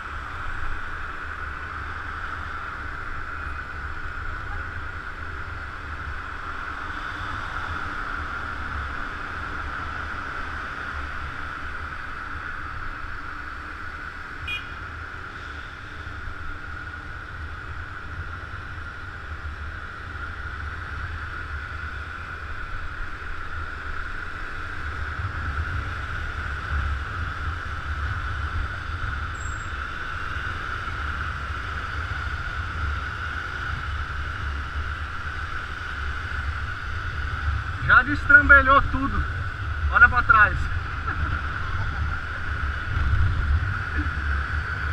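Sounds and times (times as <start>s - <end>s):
motor scooter engine drone: 0.0s - 44.9s.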